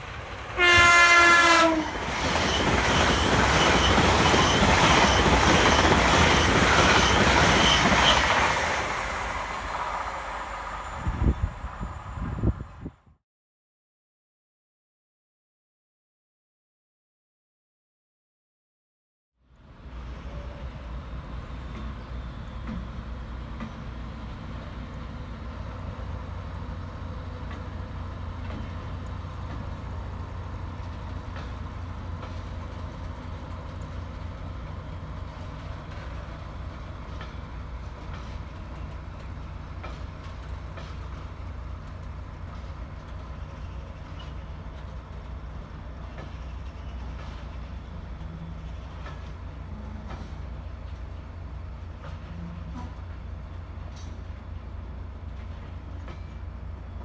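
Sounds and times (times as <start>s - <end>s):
diesel locomotive droning past: 0.0s - 13.1s, 19.5s - 57.0s.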